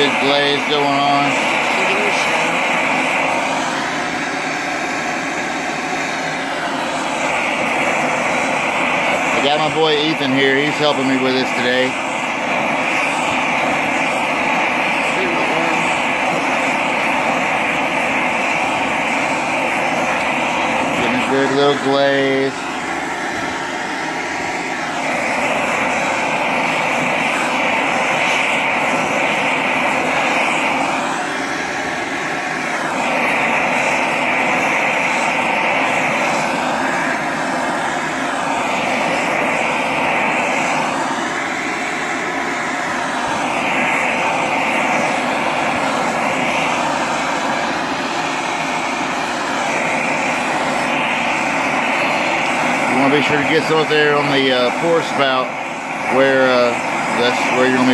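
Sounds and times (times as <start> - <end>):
gas torch hissing: 0.0 - 57.9.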